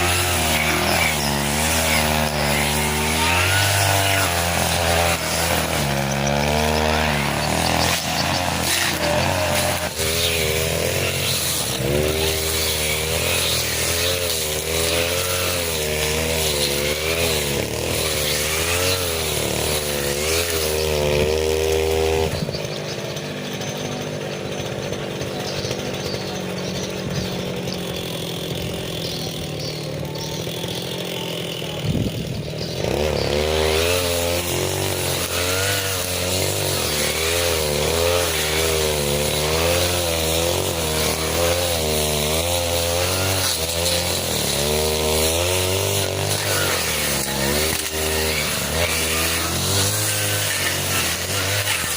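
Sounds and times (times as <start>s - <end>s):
brush cutter cutting grass: 0.0s - 51.9s.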